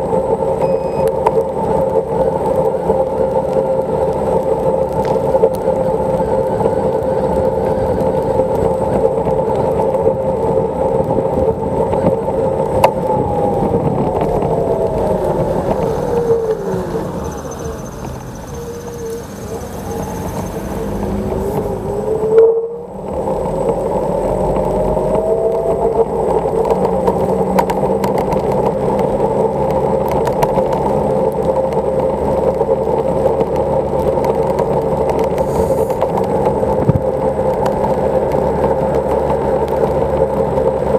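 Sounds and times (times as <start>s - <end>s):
electric scooter motor whine: 0.0s - 40.9s
tyres on wet road: 0.0s - 40.9s.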